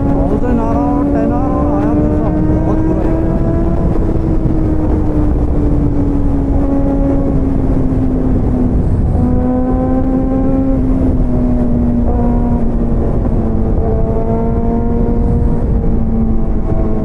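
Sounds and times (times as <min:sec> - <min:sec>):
motorcycle engine running: 0:00.0 - 0:17.0
wind rush: 0:00.0 - 0:17.0.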